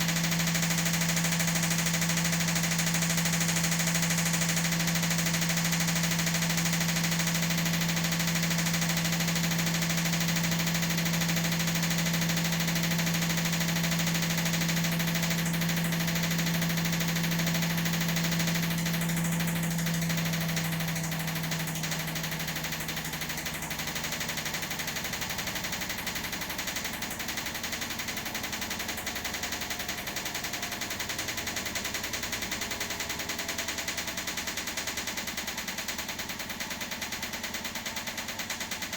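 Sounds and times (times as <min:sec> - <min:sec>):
washing machine hum: 0:00.0 - 0:38.9.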